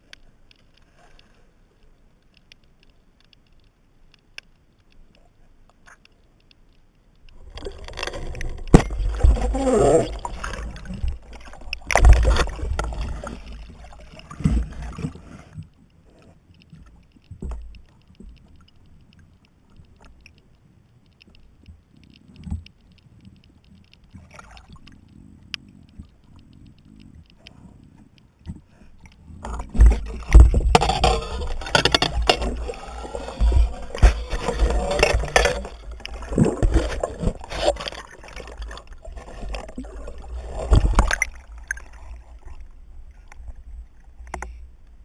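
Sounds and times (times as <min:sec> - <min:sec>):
faint clicks: 0:00.0 - 0:45.0
water splashing and sloshing: 0:00.0 - 0:45.0.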